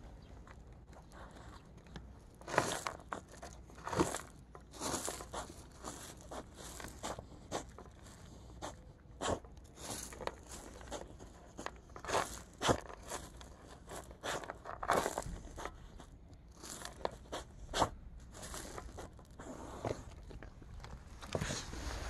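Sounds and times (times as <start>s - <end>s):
dog chewing a bone: 0.4s - 21.4s.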